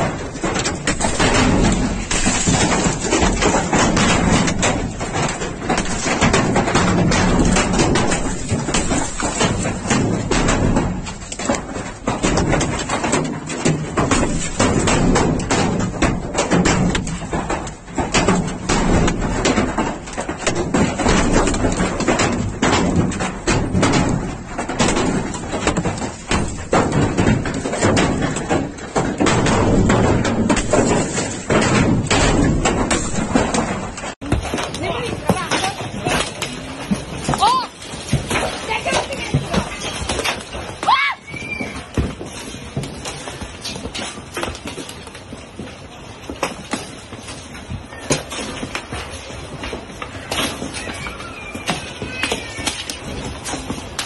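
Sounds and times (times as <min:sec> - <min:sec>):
heavy hail clattering: 0:00.0 - 0:54.0.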